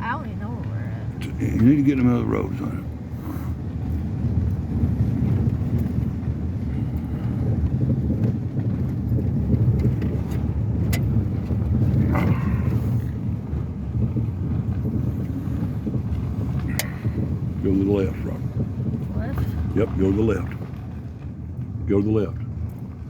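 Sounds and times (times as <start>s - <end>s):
truck engine and tyres rumbling: 0.0s - 23.0s.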